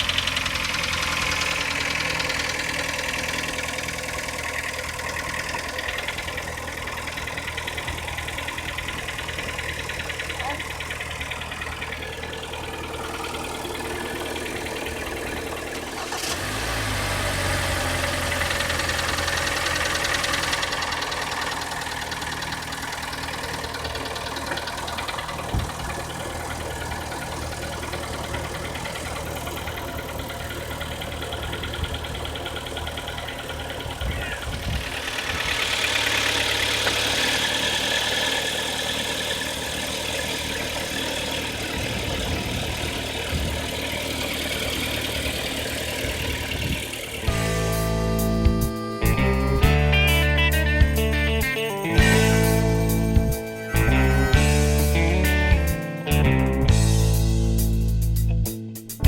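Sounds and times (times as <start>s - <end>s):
car engine idling with knock: 0.0s - 49.0s, 50.6s - 58.6s.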